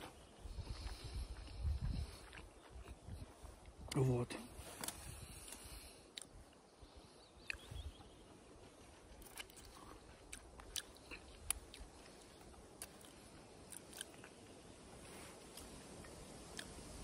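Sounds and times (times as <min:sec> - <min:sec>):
faint chewing with wet smacks: 0:00.0 - 0:04.1, 0:05.5 - 0:06.7, 0:07.3 - 0:17.0.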